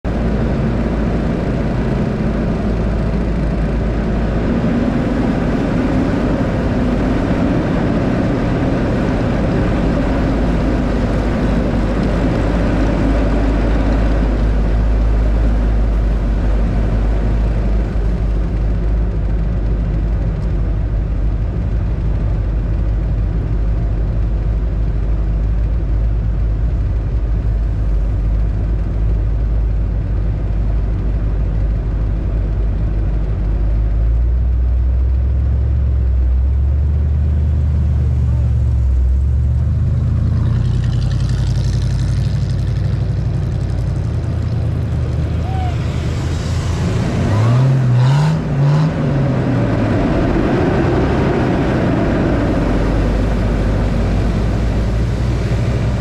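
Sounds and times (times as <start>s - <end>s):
vehicle engine under load: 0.0s - 56.0s.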